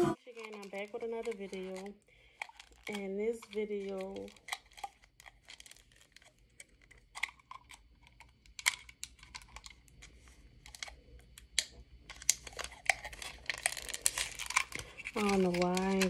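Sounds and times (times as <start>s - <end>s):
fingernails clicking on plastic bottle: 0.2s - 16.0s
plastic crinkling: 0.2s - 16.0s.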